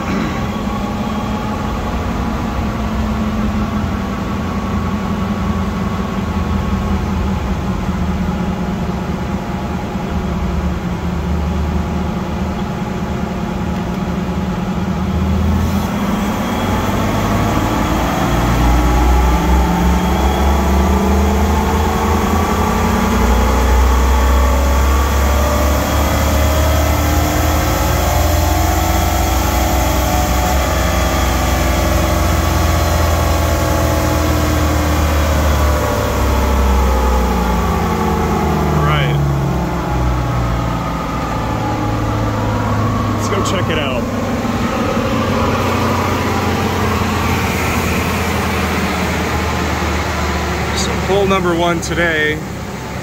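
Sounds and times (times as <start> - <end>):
car engine revving on a dyno: 0.0 - 53.0.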